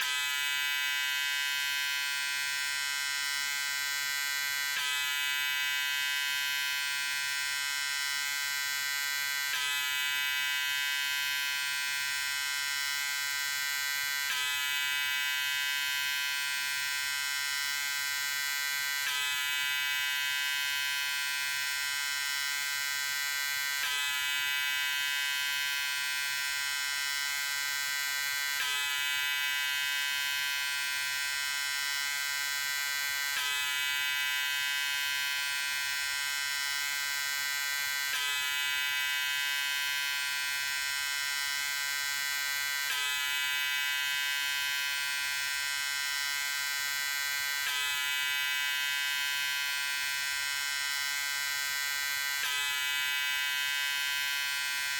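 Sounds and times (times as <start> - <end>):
electric razor buzzing: 0.0 - 54.9.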